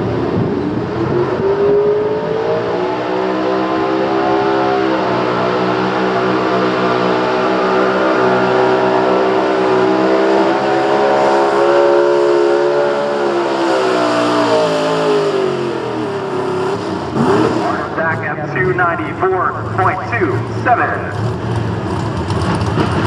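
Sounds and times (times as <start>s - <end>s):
truck engine at full throttle: 0.0s - 23.0s.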